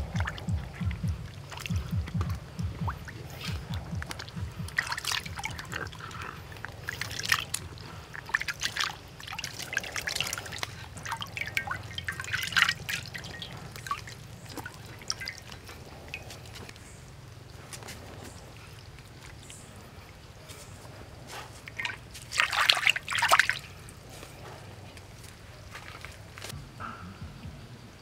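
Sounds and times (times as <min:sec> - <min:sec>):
water splashing and dripping: 0:00.0 - 0:26.6
steady low hum: 0:00.0 - 0:28.0.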